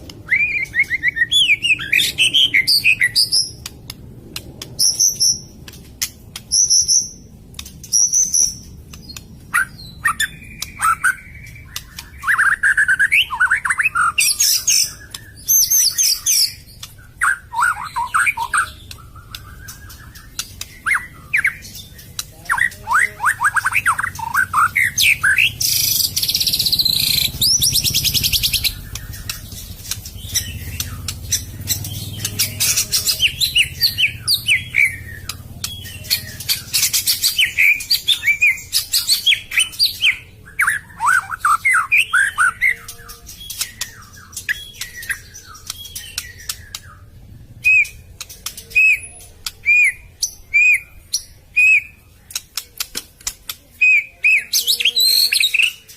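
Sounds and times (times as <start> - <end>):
songbird whistling and trilling: 0.1 - 3.7, 4.7 - 52.0, 53.8 - 55.9.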